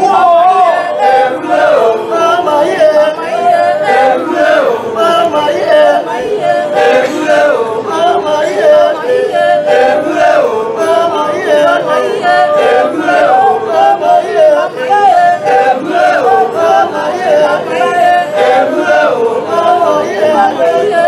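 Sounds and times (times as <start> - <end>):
group singing unaccompanied: 0.0 - 21.0.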